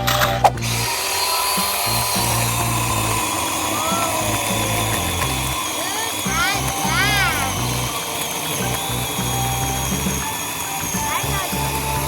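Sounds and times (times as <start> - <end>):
background music: 0.0 - 12.0
toy chainsaw electronic buzzing: 0.0 - 12.0.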